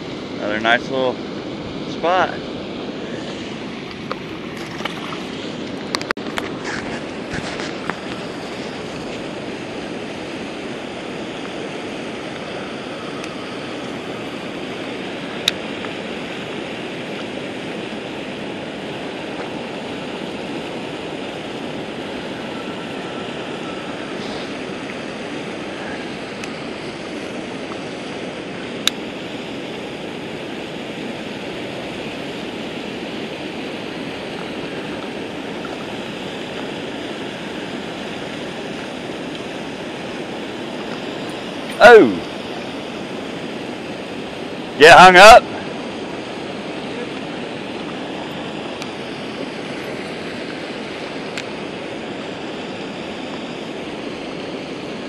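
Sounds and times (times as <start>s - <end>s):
water rushing over dam: 0.0s - 55.0s.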